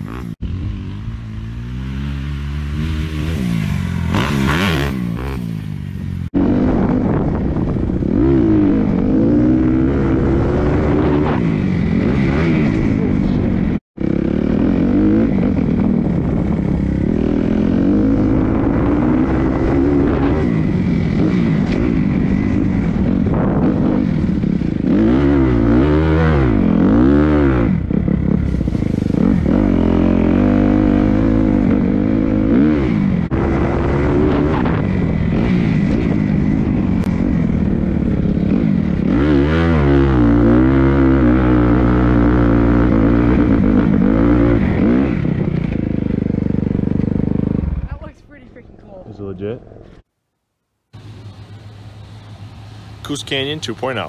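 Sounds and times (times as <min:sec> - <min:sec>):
dirt bike engine revving: 0:00.0 - 0:48.1.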